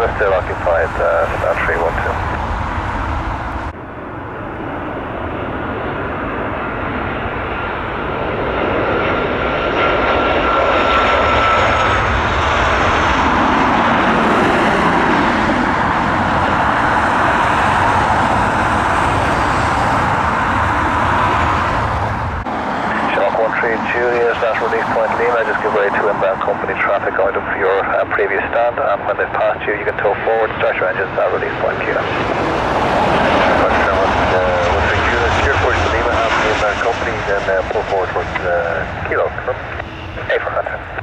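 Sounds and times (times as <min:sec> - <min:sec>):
jet engines roaring past: 0:00.0 - 0:41.0.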